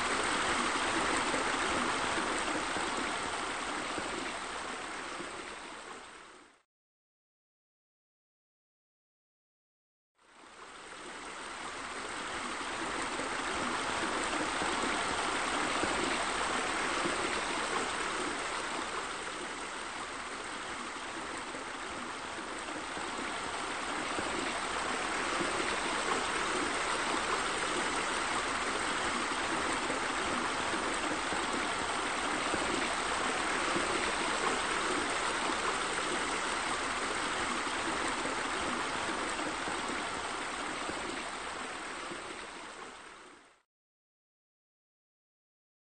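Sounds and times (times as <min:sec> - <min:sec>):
running water: 0:00.0 - 0:06.5, 0:10.4 - 0:43.6.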